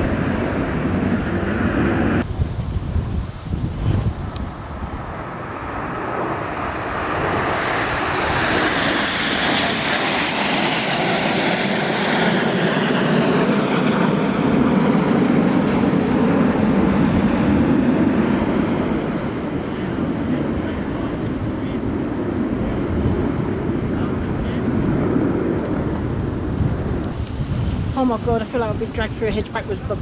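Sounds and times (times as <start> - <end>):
jet aircraft passing overhead: 0.0 - 2.3, 3.8 - 30.0.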